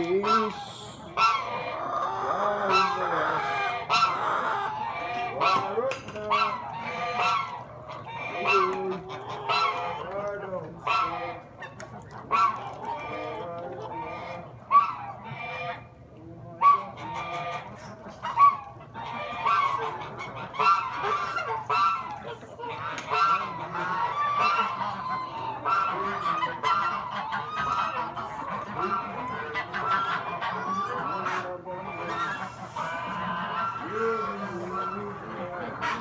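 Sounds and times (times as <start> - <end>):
geese honking: 0.0 - 10.2, 10.8 - 15.9, 16.6 - 36.0.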